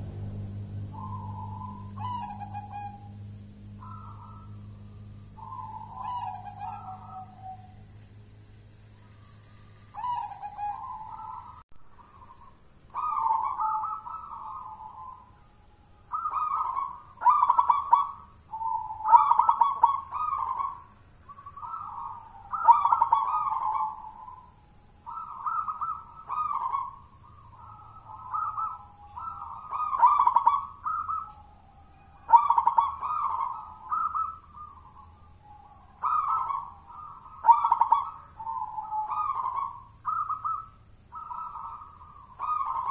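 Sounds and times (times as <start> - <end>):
dove cooing: 0.0 - 7.9, 9.0 - 42.9.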